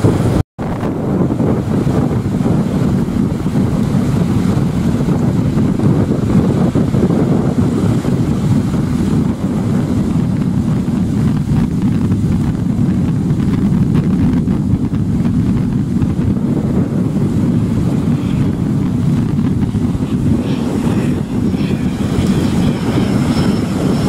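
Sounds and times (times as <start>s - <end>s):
jet engine roar: 0.0s - 24.0s
wind noise on microphone: 0.0s - 24.0s.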